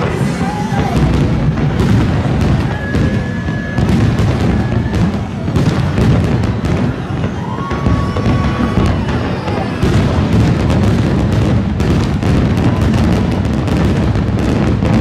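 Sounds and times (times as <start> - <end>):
fireworks bangs and crackling: 0.0 - 15.0
fireworks booming: 0.0 - 15.0.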